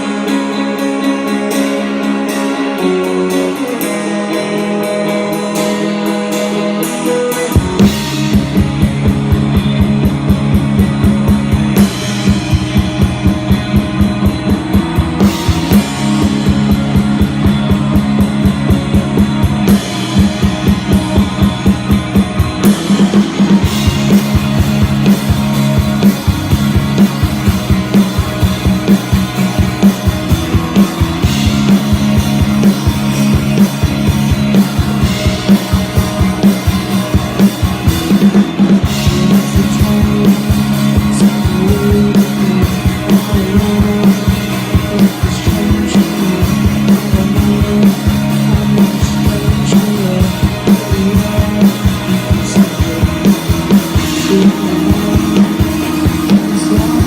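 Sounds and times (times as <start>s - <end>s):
drum kit beat: 0.0s - 57.0s
electric guitar: 0.0s - 57.0s.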